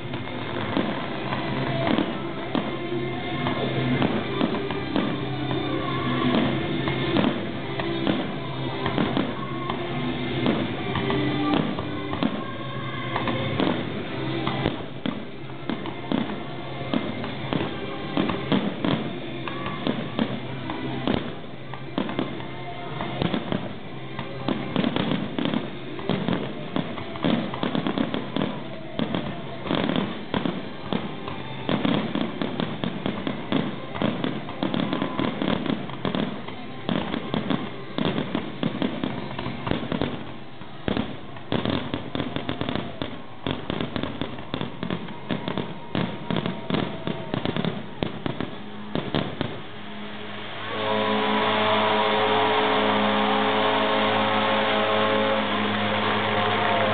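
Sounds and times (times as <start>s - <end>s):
fireworks bursting and crackling: 0.0s - 56.9s.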